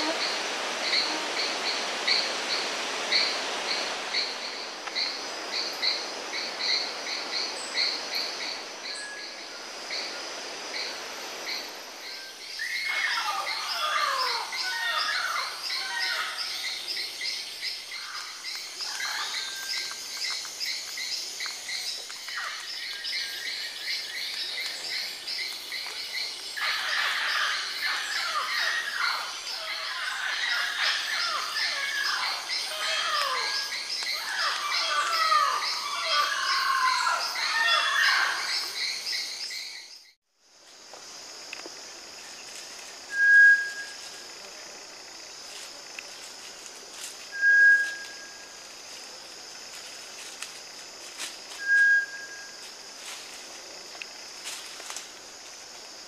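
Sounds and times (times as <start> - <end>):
pulsing insect chorus: 0.0 - 56.0.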